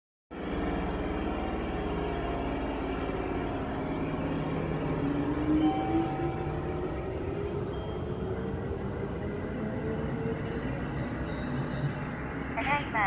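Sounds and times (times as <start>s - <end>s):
electric train rumbling: 0.3s - 13.0s.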